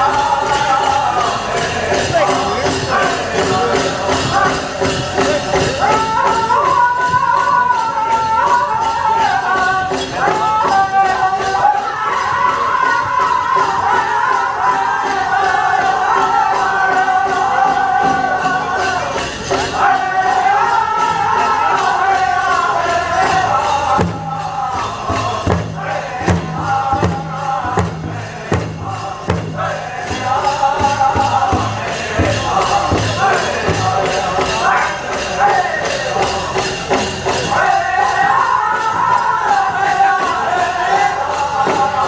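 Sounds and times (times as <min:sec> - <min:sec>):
big drum beats: 0:00.0 - 0:42.0
group singing in high voices: 0:00.0 - 0:42.0
jingling bells: 0:00.0 - 0:42.0.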